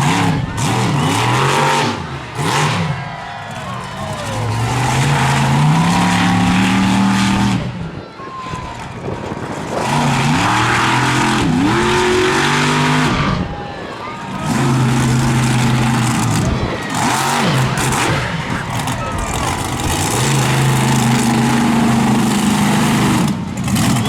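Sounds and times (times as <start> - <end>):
monster truck engine revving: 0.0 - 8.0, 8.7 - 24.0.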